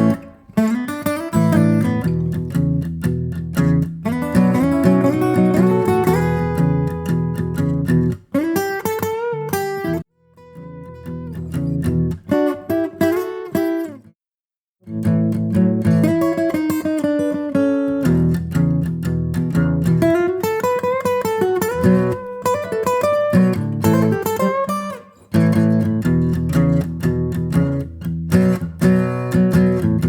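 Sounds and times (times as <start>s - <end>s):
acoustic guitar music: 0.0s - 14.1s, 14.8s - 30.0s.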